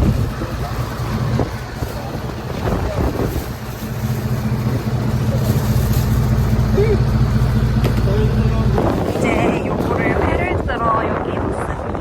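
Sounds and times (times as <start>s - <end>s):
wind noise on microphone: 0.0s - 6.4s, 8.0s - 12.0s
vehicle engine running: 0.0s - 12.0s.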